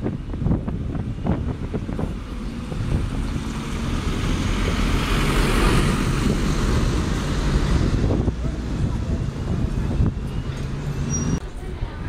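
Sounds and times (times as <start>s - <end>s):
bus driving past: 0.0s - 12.0s.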